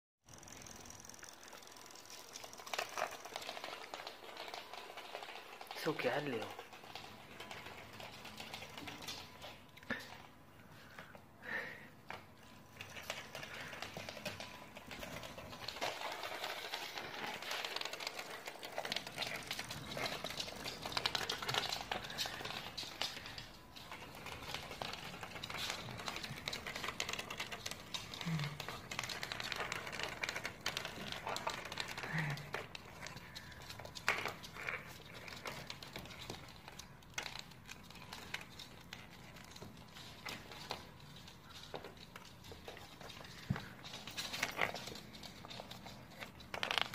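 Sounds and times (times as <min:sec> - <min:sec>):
puppies' claws clicking on wood floor: 0:00.3 - 0:46.9.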